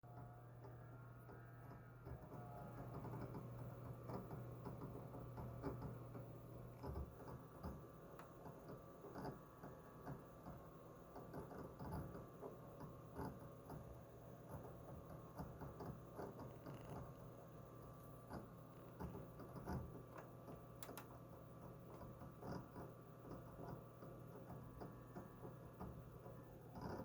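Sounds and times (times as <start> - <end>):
hard drive spinning hum: 0.0 - 27.0
hard drive head chirps and clicks: 0.2 - 27.0.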